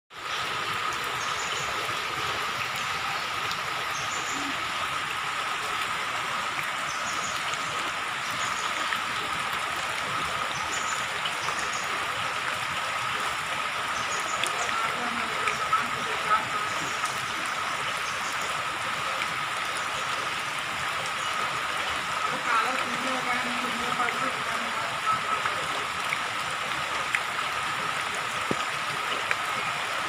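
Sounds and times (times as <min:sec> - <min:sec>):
rain on water: 0:00.1 - 0:30.0.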